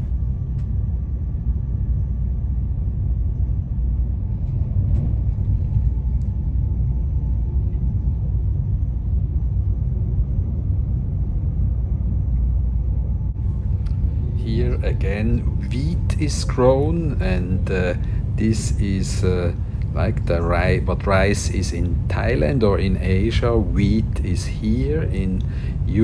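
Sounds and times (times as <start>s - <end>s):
train interior low rumble: 0.0s - 26.0s.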